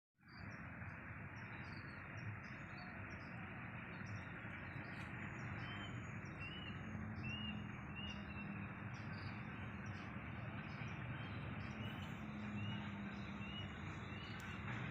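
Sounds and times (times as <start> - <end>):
small birds chirping: 0.2 - 14.9
steady outdoor noise: 0.2 - 14.9.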